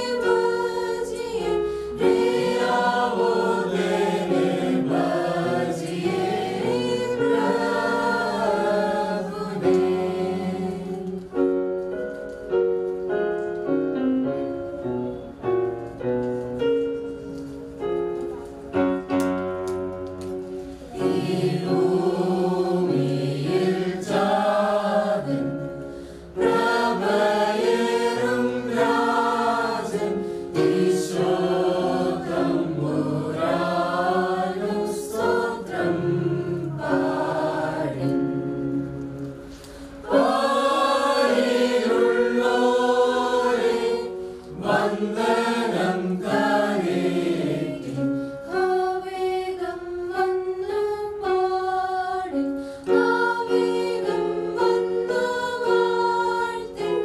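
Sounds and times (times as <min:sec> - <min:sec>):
mixed choir singing a carol: 0:00.0 - 0:11.6, 0:20.6 - 0:57.0
electronic keyboard: 0:00.0 - 0:57.0.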